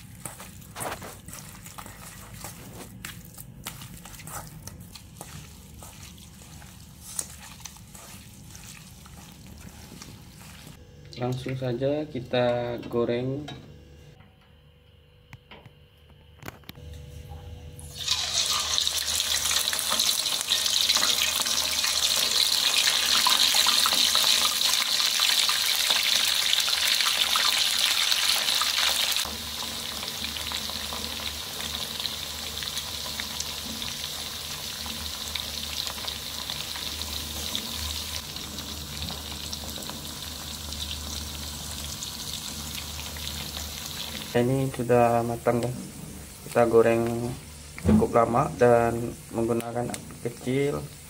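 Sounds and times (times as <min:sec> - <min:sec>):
food deep-frying in oil: 0:00.0 - 0:10.8, 0:17.8 - 0:51.0.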